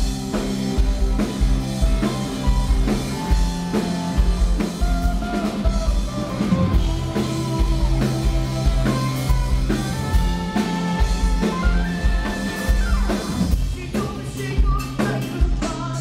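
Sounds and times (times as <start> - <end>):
electric bass: 0.0 - 16.0
electric guitars: 0.0 - 16.0.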